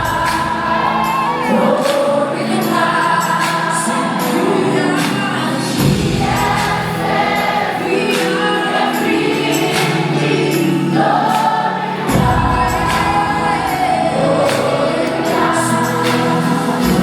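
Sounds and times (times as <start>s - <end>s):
choir singing gospel music: 0.0s - 17.0s.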